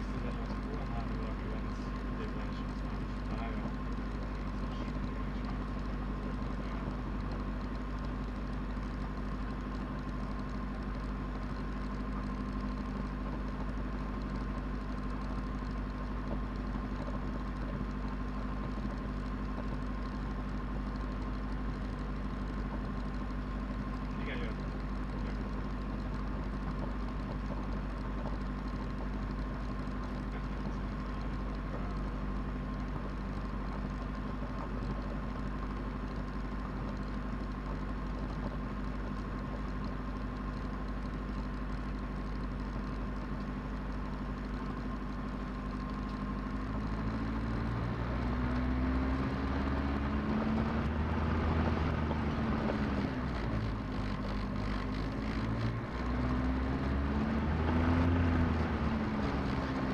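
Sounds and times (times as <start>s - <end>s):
aircraft engine idling: 0.0s - 59.9s.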